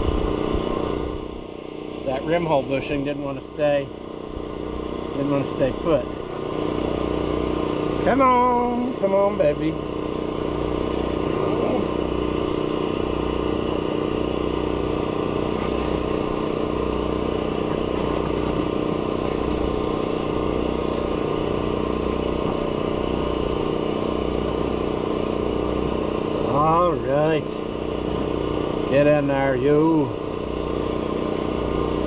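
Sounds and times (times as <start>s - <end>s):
air compressor running: 0.0s - 32.0s.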